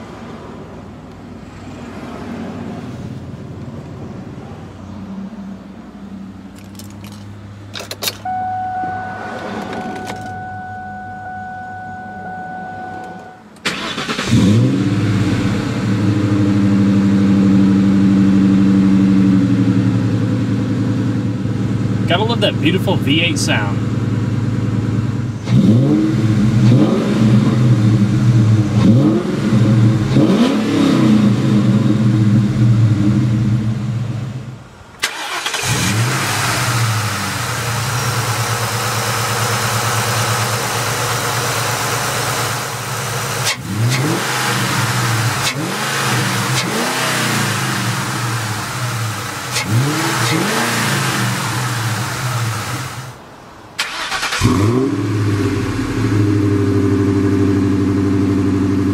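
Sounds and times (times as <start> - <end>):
car engine idling and revving: 0.0 - 58.9.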